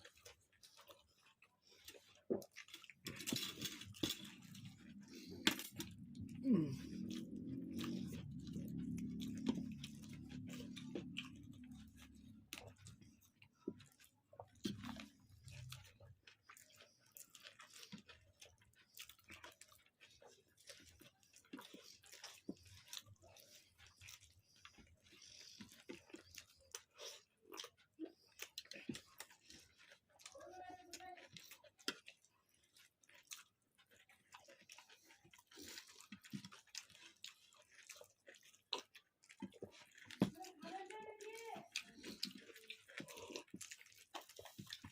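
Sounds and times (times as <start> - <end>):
person chewing with full mouth: 0.0 - 44.9.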